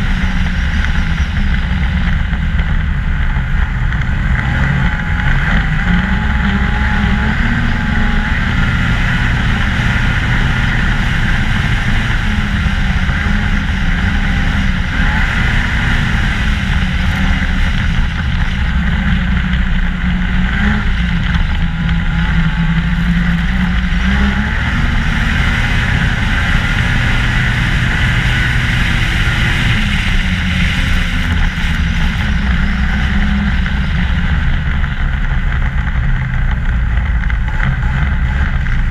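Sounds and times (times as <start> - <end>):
constant rushing noise: 0.0 - 38.9
snowmobile engine running: 0.0 - 38.9.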